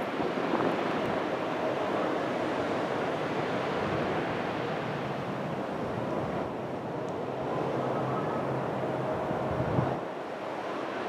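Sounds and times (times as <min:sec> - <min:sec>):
ocean surf rushing: 0:00.0 - 0:11.0.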